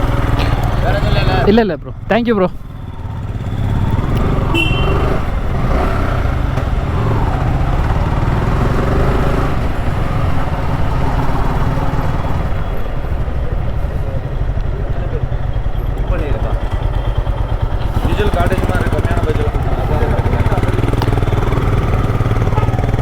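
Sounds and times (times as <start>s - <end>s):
motorcycle engine running: 0.0s - 23.0s
road noise: 0.0s - 23.0s.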